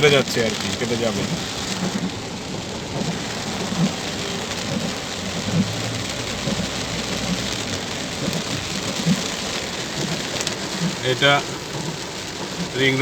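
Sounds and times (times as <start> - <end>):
heavy rain on a car: 0.0 - 13.0.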